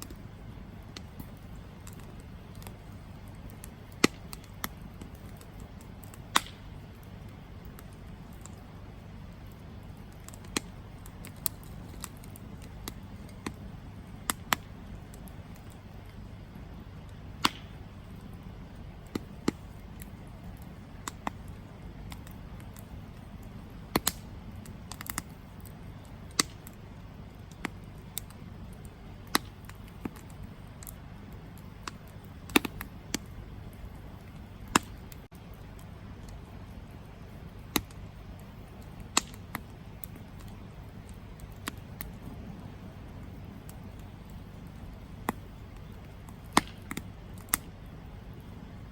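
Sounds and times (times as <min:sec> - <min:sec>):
low rumble of flames: 0:00.0 - 0:48.9
wood crackling and popping: 0:00.0 - 0:48.9.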